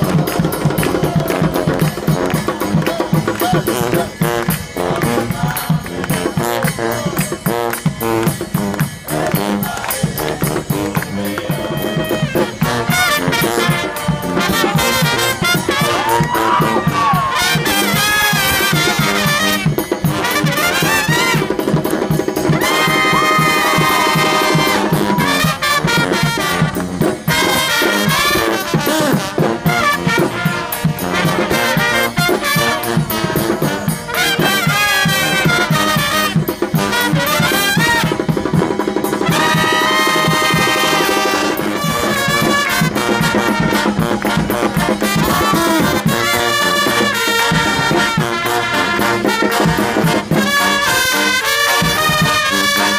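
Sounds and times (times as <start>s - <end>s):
brass band playing: 0.0s - 52.9s
drum beat: 0.0s - 52.9s.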